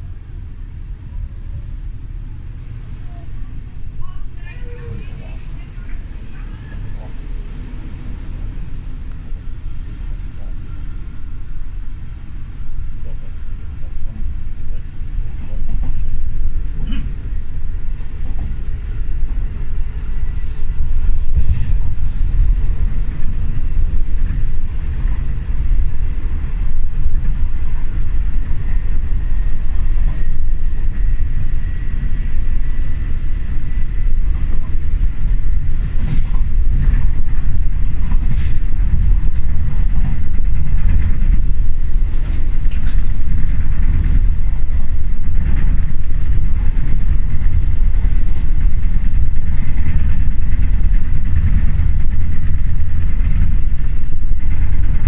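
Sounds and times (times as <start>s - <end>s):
train carriage rumbling: 0.0s - 55.0s.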